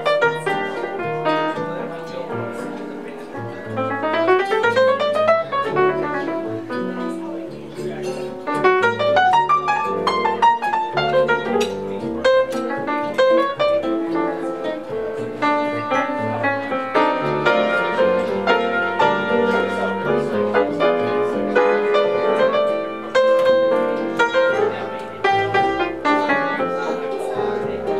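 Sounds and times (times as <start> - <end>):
piano melody: 0.0 - 27.9.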